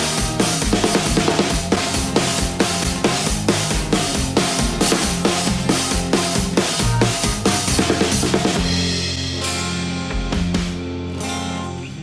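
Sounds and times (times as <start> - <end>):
drum fill: 0.0 - 11.0
held guitar chord: 1.2 - 12.0.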